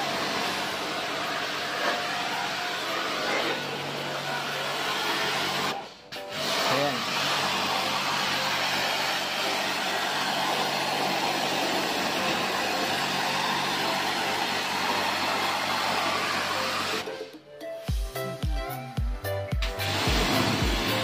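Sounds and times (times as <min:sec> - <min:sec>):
pressure washer motor hum: 0:00.0 - 0:17.1, 0:19.5 - 0:21.0
water jet hissing: 0:00.0 - 0:17.2, 0:19.7 - 0:21.0.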